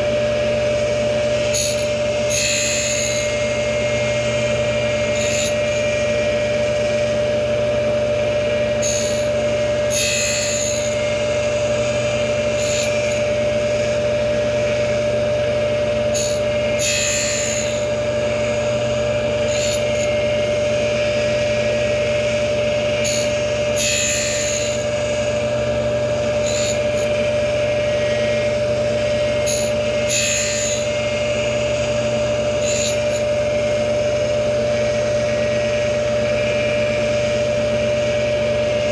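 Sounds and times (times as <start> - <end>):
grinder motor whine: 0.0 - 38.9.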